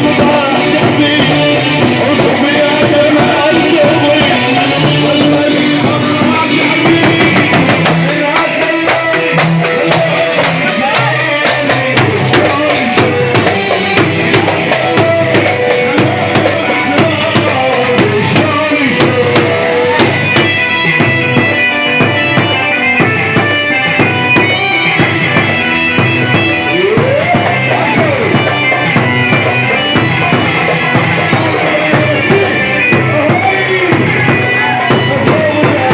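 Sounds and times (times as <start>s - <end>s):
steady drum beat: 0.0s - 35.9s
wavering melodic lead: 0.0s - 35.9s.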